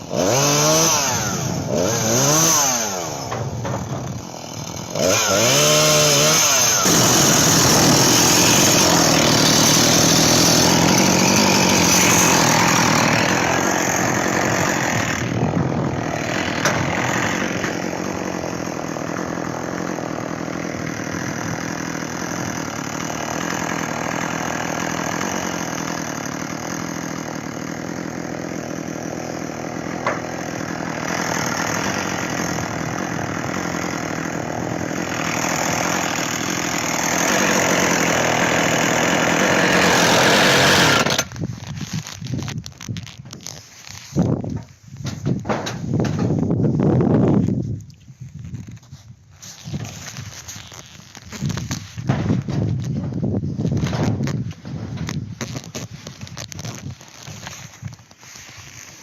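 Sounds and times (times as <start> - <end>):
chainsaw sawing wood: 0.0 - 59.0.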